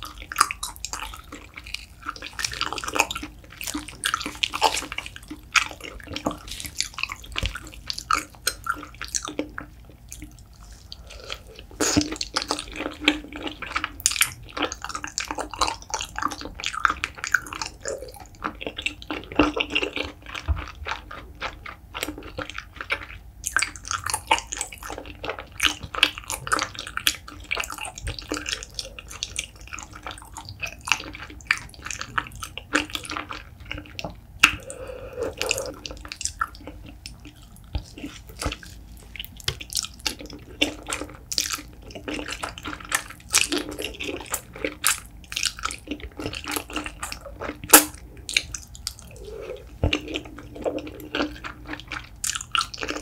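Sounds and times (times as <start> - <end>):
close chewing with wet clicks: 0.0 - 53.0.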